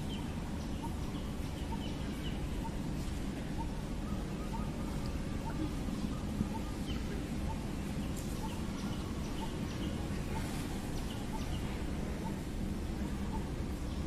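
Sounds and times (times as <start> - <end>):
faint bird chirps: 0.0 - 12.5
steady low rumble: 0.0 - 14.0.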